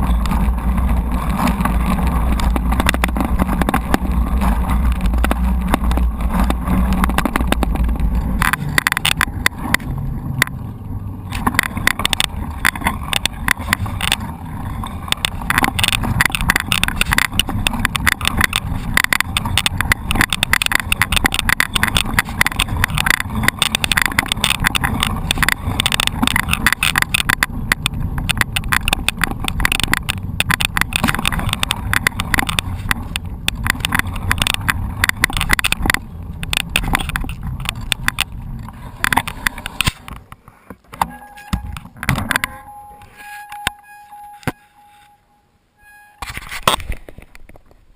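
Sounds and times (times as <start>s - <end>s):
mountain bike rattling over rough ground: 0.0s - 45.2s, 45.9s - 47.9s
low rumble: 0.0s - 46.6s.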